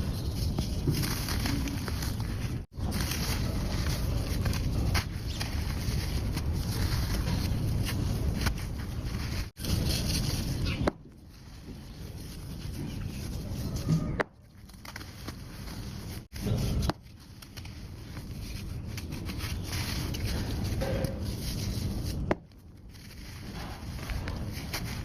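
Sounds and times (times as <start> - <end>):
sand crumbling and scraping: 0.0 - 25.0.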